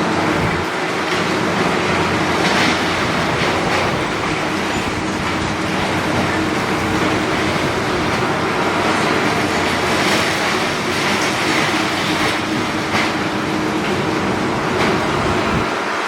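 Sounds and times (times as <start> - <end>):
excavator engine drone: 0.0 - 16.0.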